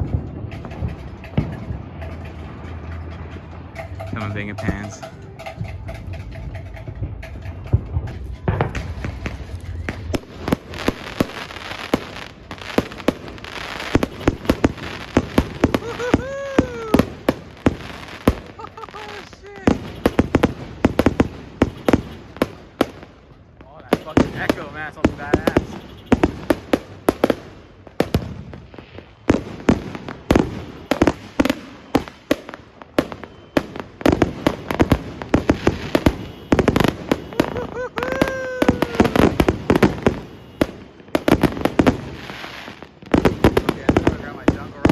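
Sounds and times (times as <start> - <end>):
firecrackers crackling: 0.0 - 44.9
fireworks sharp bangs: 0.0 - 44.9.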